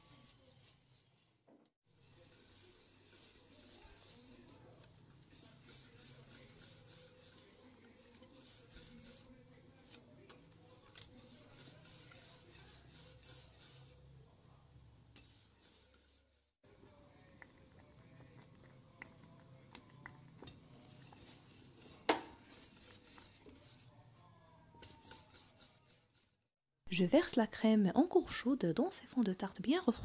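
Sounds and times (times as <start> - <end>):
whisk scraping in a saucepan: 0.0 - 14.2, 15.0 - 24.0, 24.7 - 26.5.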